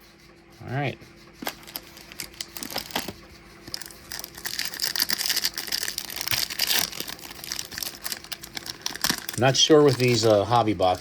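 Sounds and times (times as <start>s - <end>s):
plastic wrapper tearing and crinkling: 1.4s - 11.0s.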